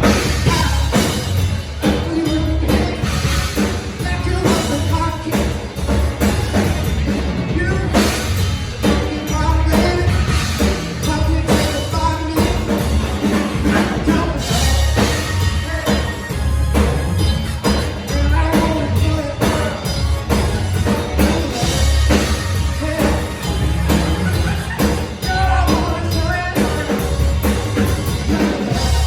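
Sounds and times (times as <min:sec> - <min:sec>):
drum-kit beat: 0:00.0 - 0:29.0
heavy bass: 0:00.0 - 0:29.0
live rock band playing: 0:00.0 - 0:29.0
person singing: 0:00.3 - 0:01.2, 0:01.8 - 0:05.8, 0:07.5 - 0:27.2.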